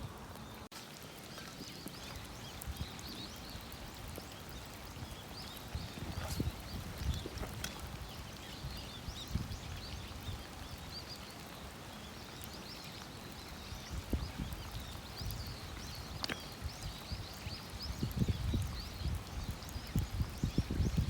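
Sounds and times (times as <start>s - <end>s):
rain hiss: 0.0s - 21.0s
small birds chirping: 0.0s - 21.0s.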